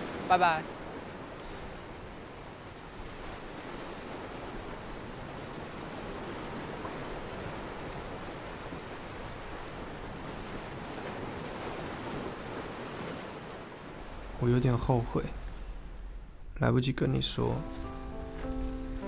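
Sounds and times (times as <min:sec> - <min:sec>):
sea surf: 0:00.0 - 0:19.0.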